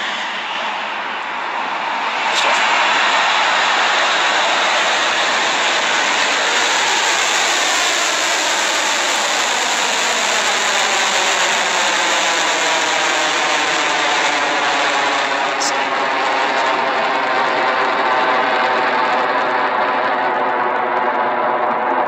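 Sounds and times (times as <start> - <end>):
rocket engines roaring: 0.0 - 22.0.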